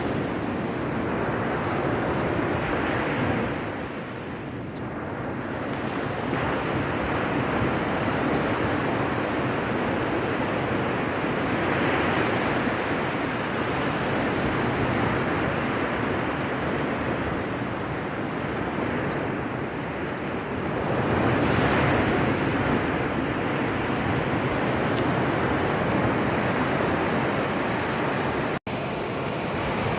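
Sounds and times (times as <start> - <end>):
ocean surf breaking: 0.0 - 29.9.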